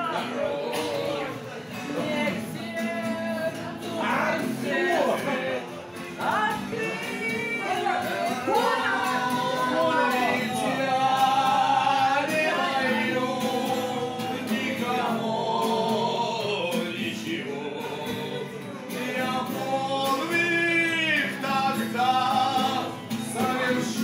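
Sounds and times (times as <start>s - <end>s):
acoustic guitar: 0.0s - 24.0s
person singing: 0.0s - 24.0s.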